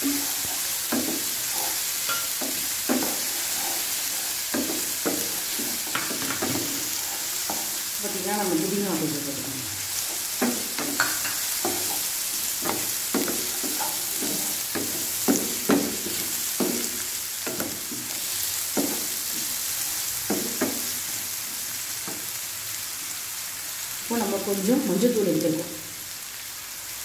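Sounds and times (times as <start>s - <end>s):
wooden spatula scraping a pan: 0.0s - 22.3s
vegetables sizzling in oil: 0.0s - 27.0s.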